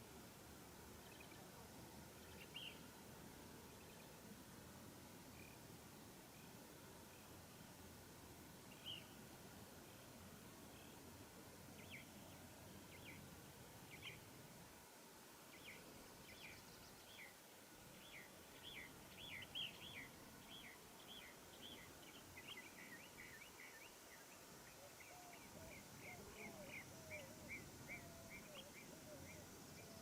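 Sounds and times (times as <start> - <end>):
small bird chirping faintly: 0.0 - 30.0.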